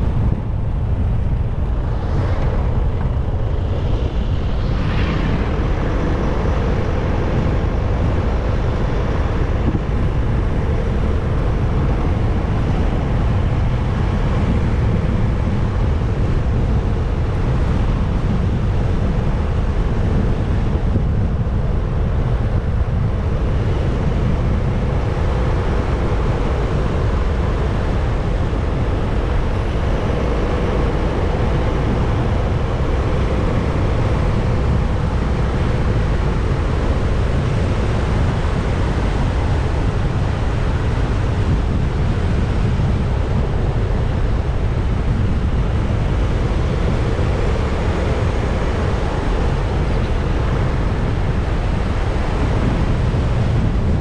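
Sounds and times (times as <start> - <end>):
motorcycle road noise: 0.0 - 54.0
wind rush: 0.0 - 54.0.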